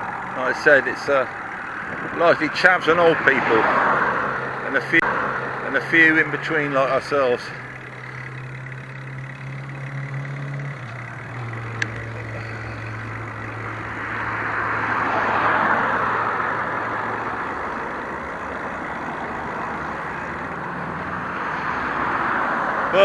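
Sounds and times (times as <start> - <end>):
vehicle engine humming: 0.0 - 23.0
vehicle passing: 0.0 - 23.0.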